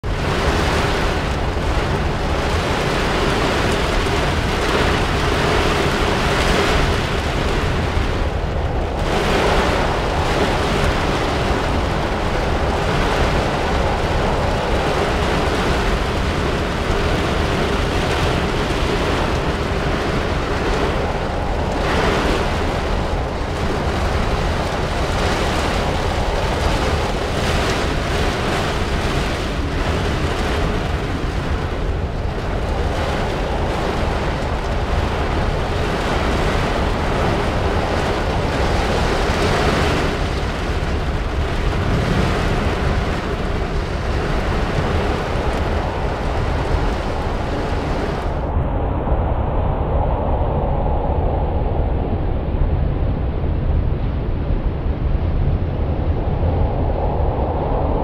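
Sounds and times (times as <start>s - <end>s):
storm wind buffeting microphone: 0.0s - 58.0s.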